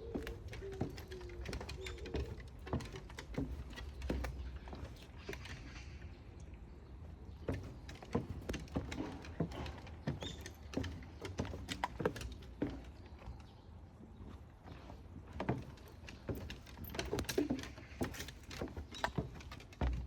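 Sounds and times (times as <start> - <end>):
dog's paws tapping on stairs: 0.0 - 5.6, 7.4 - 13.4, 15.2 - 20.0
footsteps going down stairs: 0.0 - 5.6, 7.4 - 13.4, 14.2 - 20.0.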